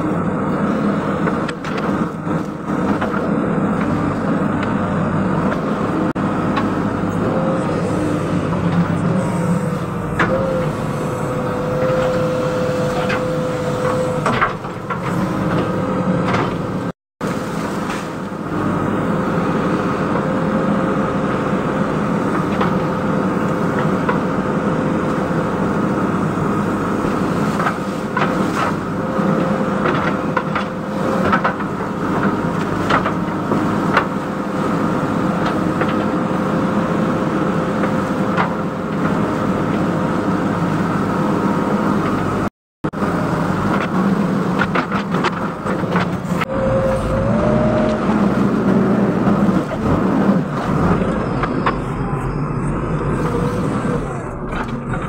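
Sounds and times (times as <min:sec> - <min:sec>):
backhoe engine running: 0:00.0 - 0:55.0.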